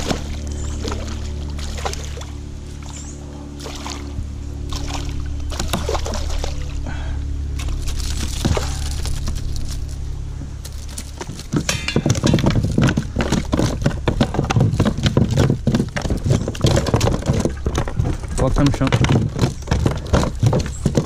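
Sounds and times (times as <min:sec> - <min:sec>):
fish thrashing in plastic kayak: 0:00.0 - 0:02.4, 0:03.6 - 0:09.8, 0:10.7 - 0:21.0
steady low hum: 0:00.0 - 0:21.0.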